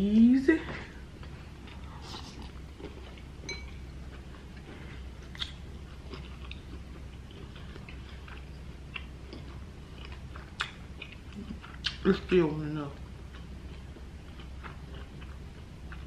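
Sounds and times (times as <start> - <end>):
low hum: 0.0 - 16.0
chewing and mouth sounds: 1.2 - 16.0.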